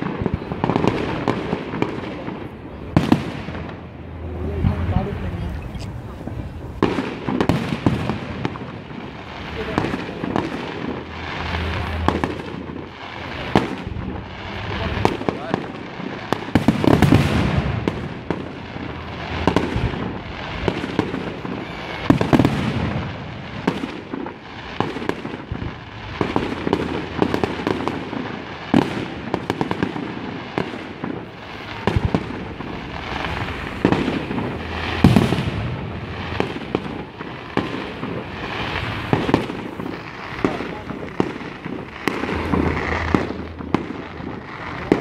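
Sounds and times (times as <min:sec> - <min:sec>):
continuous fireworks rumble: 0:00.0 - 0:45.0
fireworks bursting bangs: 0:00.0 - 0:45.0.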